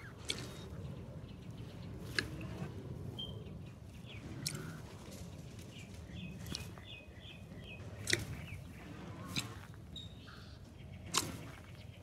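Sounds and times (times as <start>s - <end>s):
low outdoor background noise: 0.0s - 12.0s
small birds chirping: 0.0s - 12.0s.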